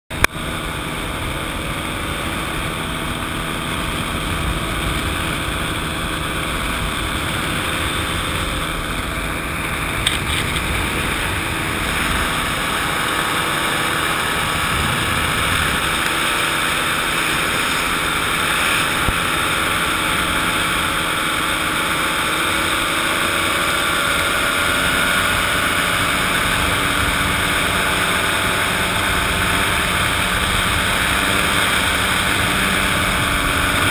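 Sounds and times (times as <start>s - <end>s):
paramotor engine and propeller: 0.1s - 33.9s.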